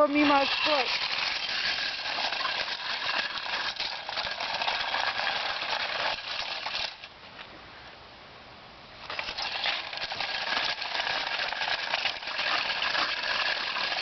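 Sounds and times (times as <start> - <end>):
toy truck rattling as it rolls: 0.0 - 7.1, 9.0 - 14.0.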